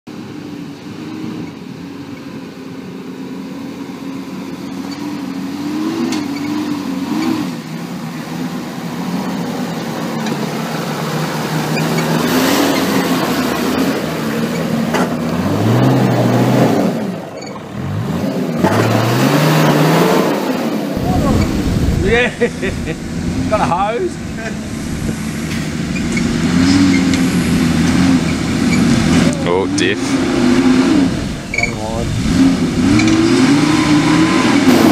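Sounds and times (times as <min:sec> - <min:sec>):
diesel engine under load: 0:00.1 - 0:34.9.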